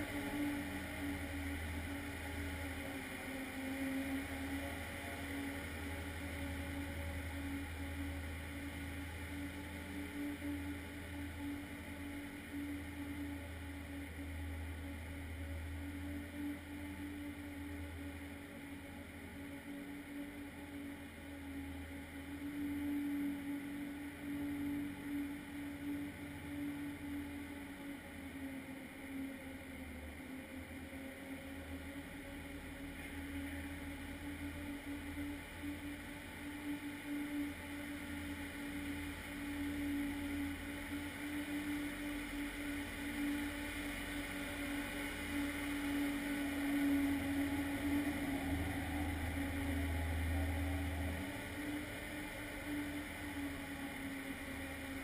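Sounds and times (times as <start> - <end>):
ice resurfacer engine humming: 0.0 - 55.0.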